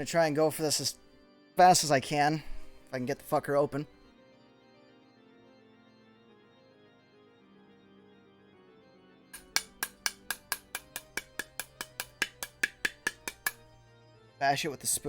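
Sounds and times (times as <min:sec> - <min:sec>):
soft organ music: 0:00.0 - 0:15.0.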